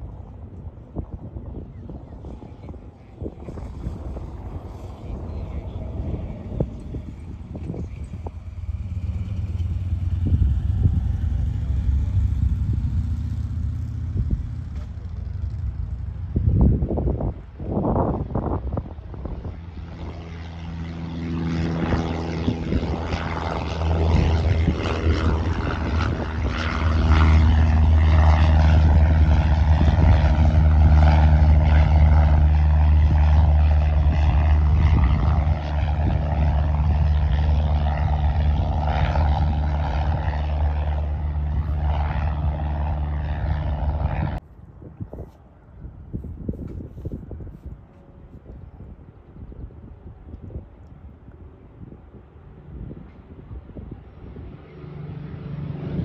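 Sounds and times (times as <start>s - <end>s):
light plane engine drone: 0.0s - 56.0s.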